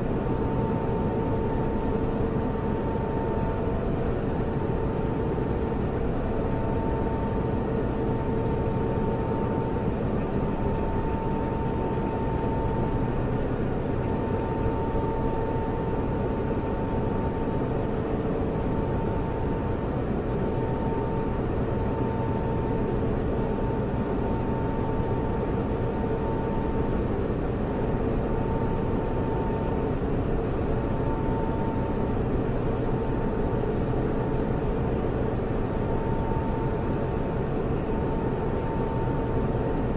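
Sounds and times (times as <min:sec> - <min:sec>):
faint steady hum: 0:00.0 - 0:39.9
server cooling fans whirring: 0:00.0 - 0:39.9.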